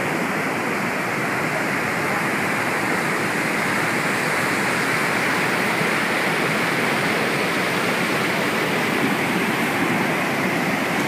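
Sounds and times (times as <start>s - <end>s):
river rushing over boulders: 0.0s - 11.0s.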